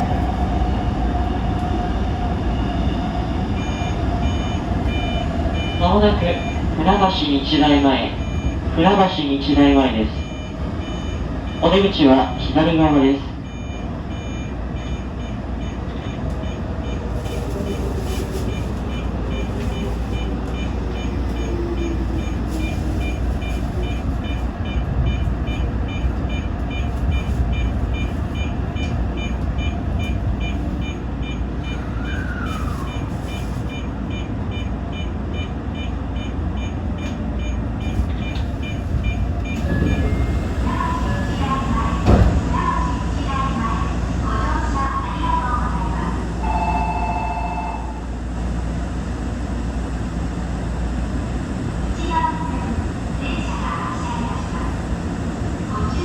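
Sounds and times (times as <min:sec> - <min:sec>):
electric train rumble: 0:00.0 - 0:56.0.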